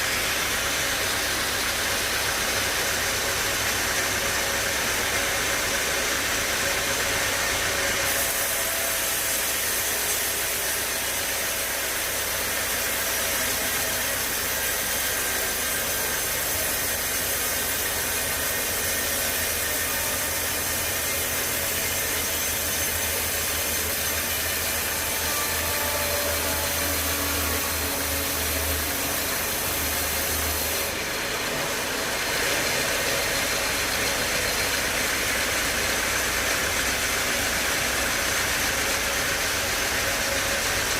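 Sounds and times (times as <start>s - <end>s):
sawmill saw cutting log: 0.0s - 40.9s.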